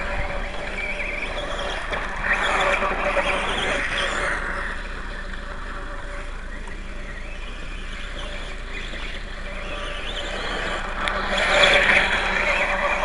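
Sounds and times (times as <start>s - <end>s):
toy motorbike motor whine: 0.0s - 13.0s.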